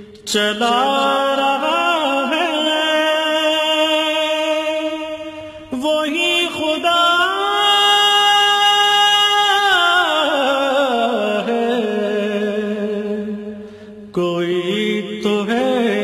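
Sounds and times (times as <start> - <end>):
solo voice singing devotional song: 0.0 - 16.0.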